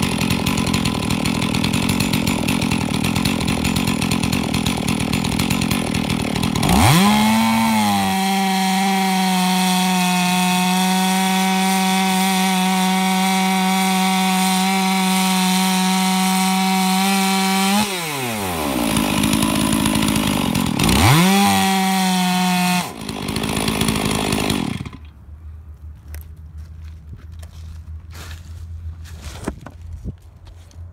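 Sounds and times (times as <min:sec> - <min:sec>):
chainsaw cutting through log: 0:00.0 - 0:25.1
chainsaw idling and revving: 0:00.0 - 0:25.1.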